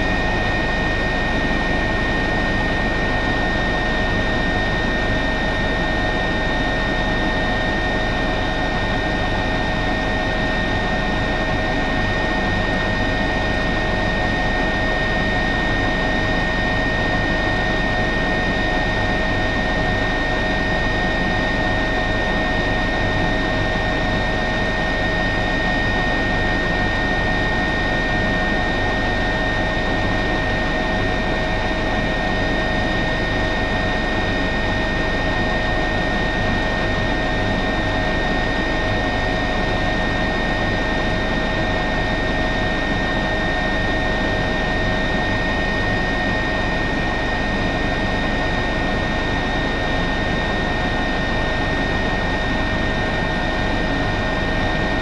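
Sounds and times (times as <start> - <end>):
helicopter rotor rumble: 0.0 - 55.0
helicopter turbine whine: 0.0 - 55.0.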